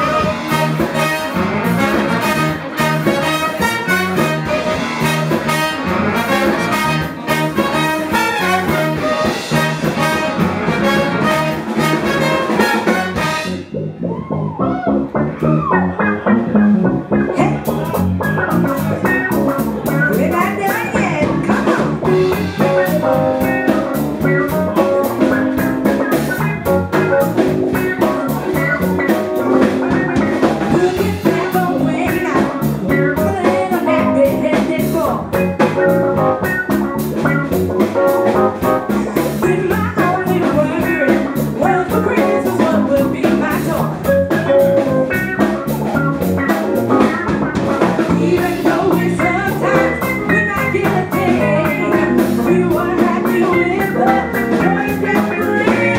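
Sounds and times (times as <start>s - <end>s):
drums: 0.0s - 55.9s
electric bass: 0.0s - 55.9s
live band playing pop-soul: 0.0s - 55.9s.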